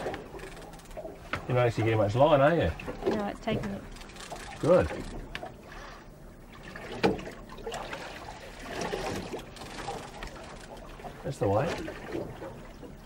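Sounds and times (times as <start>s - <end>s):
water lapping against boat: 0.0s - 13.0s.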